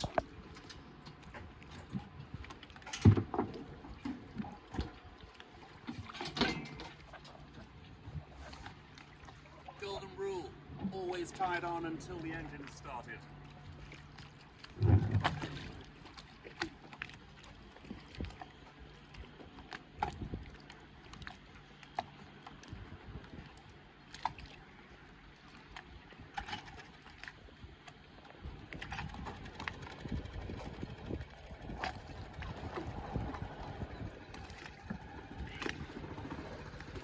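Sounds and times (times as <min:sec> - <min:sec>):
outboard motor idling: 0:00.0 - 0:37.0.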